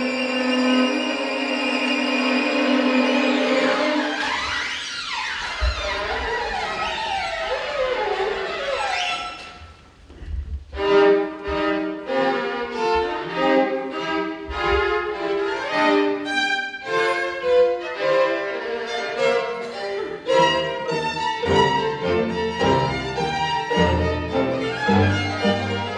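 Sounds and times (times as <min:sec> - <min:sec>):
string orchestra playing: 0:00.0 - 0:09.6, 0:10.7 - 0:25.9.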